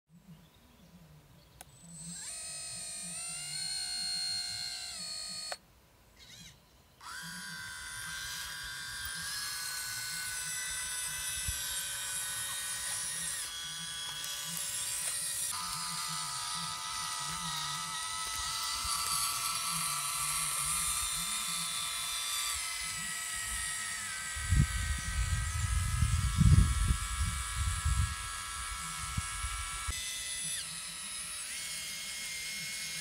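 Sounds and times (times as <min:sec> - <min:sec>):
electric pump motor whining: 0:01.8 - 0:05.6, 0:06.2 - 0:33.0.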